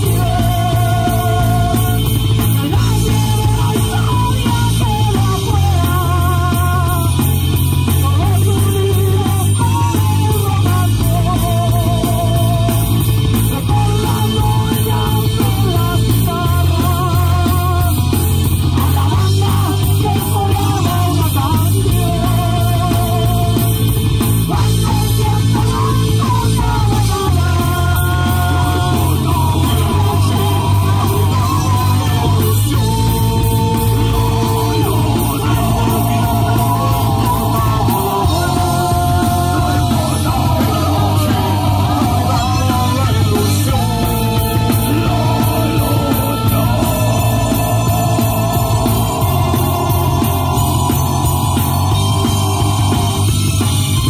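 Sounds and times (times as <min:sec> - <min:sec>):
person singing lead vocal: 0:00.0 - 0:53.9
heavy bass line: 0:00.0 - 0:54.0
rock band playing live: 0:00.0 - 0:54.0.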